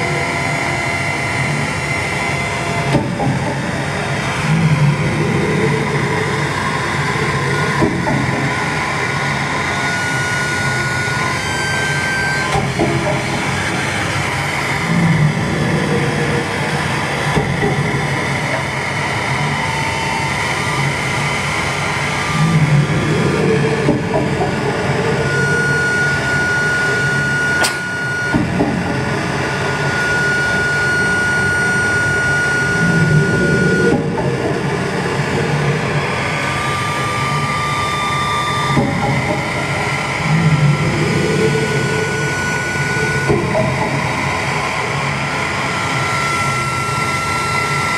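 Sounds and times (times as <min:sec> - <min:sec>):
harsh electronic noise rumbling: 0:00.0 - 0:47.9.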